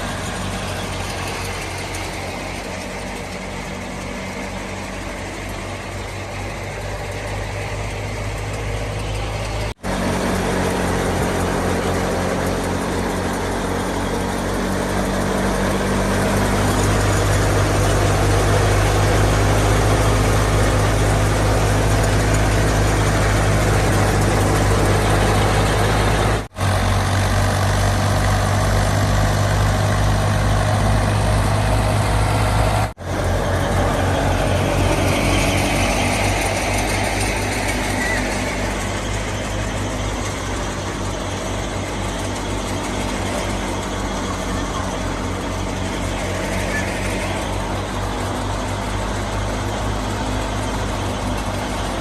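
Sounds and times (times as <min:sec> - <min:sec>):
thresher mechanical rush: 0:00.0 - 0:52.0
tractor diesel engine drone: 0:00.0 - 0:52.0.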